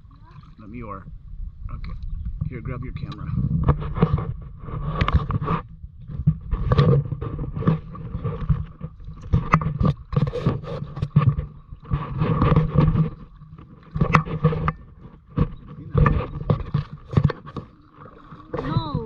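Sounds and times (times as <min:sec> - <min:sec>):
knocks and splashes of water: 0:03.4 - 0:19.0.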